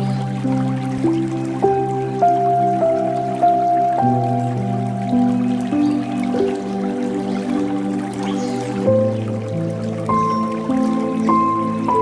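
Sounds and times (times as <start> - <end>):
calm new-age instrumental music: 0.0 - 12.0
faint trickling water: 0.0 - 12.0.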